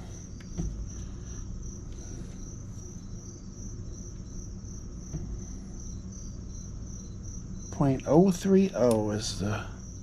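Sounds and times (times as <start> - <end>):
cricket chirping: 0.0 - 10.0
low steady hum: 0.0 - 10.0.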